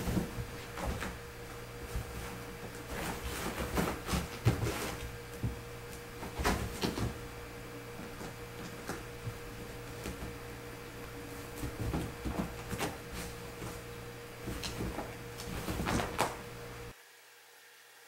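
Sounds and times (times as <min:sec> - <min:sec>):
kittens scrambling on bed: 0:00.0 - 0:07.3, 0:08.0 - 0:16.5
fabric rustling: 0:00.0 - 0:16.9
steady low hum: 0:00.0 - 0:17.0.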